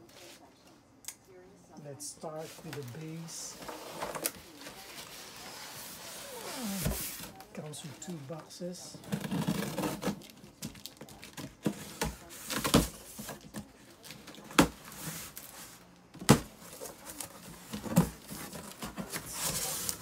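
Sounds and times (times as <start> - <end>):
tape and cardboard rustling: 2.4 - 8.1, 8.9 - 20.0.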